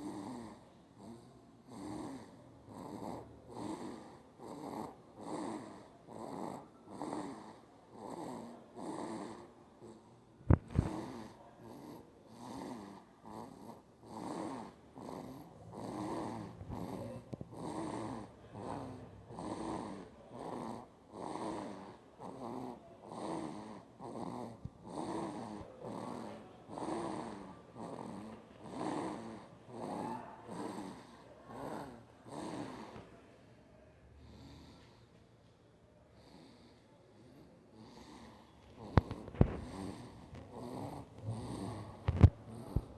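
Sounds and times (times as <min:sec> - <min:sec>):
baby snoring: 0:00.0 - 0:33.2, 0:36.2 - 0:42.9.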